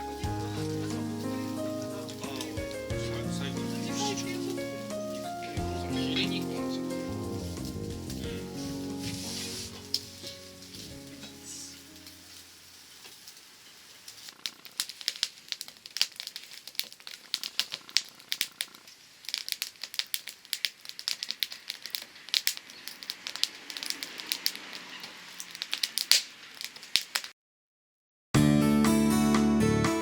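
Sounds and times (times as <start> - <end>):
soft fire hiss: 0.0 - 27.3
campfire wood crackling: 0.0 - 27.4.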